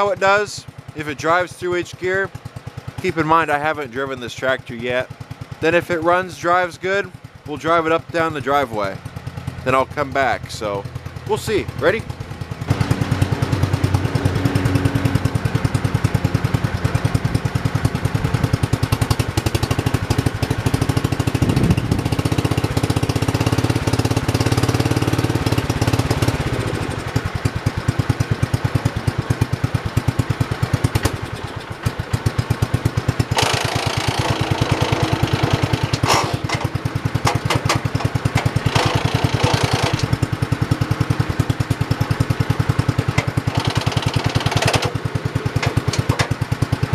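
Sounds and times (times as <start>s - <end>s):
tractor engine chugging: 0.0s - 46.9s.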